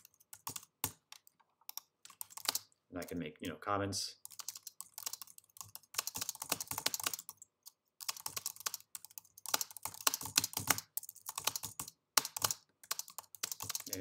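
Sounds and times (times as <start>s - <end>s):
typing on computer keyboard: 0.0s - 2.7s, 4.2s - 14.0s.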